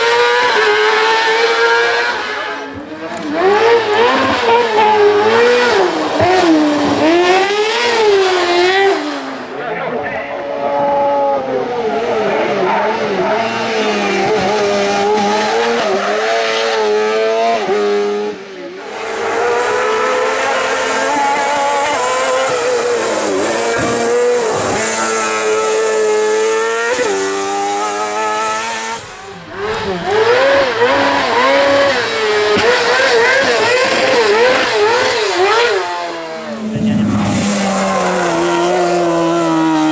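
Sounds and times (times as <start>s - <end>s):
high-revving kart engines: 0.0s - 39.9s.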